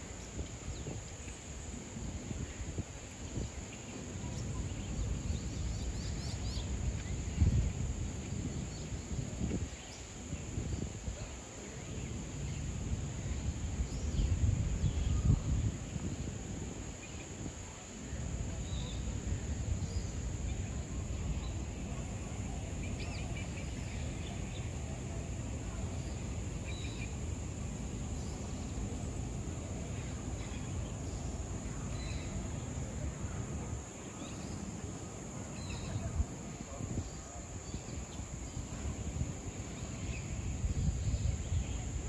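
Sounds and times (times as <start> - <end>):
high insect drone: 0.0 - 42.0.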